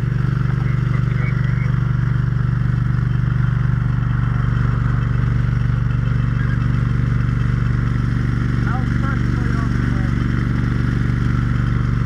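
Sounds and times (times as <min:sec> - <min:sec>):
fire pump engine humming: 0:00.0 - 0:12.0.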